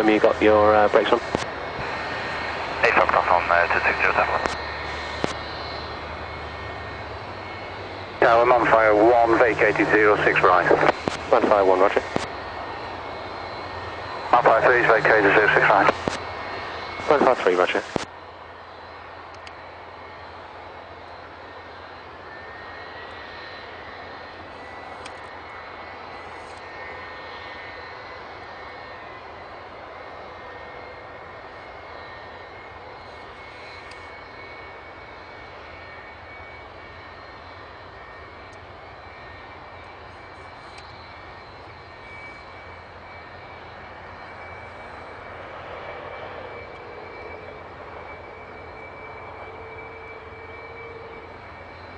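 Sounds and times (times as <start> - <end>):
jet engine whine: 0.0 - 51.9.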